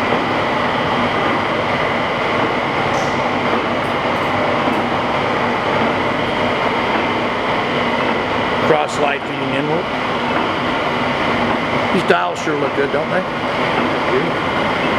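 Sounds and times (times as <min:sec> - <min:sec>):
lathe mechanical whirr: 0:00.0 - 0:14.9.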